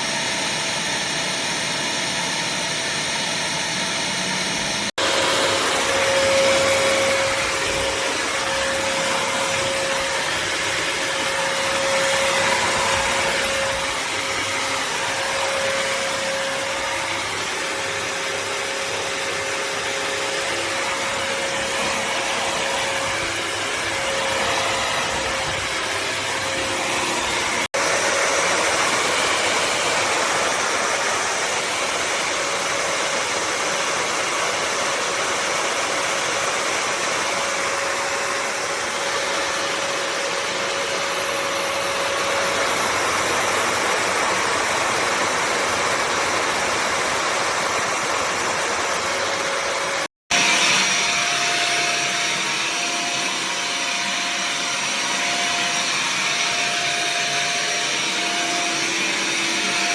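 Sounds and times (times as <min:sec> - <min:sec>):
wet-dry vacuum running: 0:00.0 - 0:59.9.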